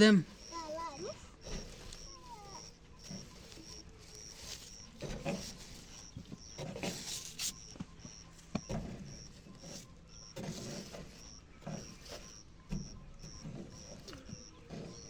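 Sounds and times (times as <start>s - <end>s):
rustling and bumping of nest: 0.0s - 15.0s
young birds chirping: 0.0s - 15.0s.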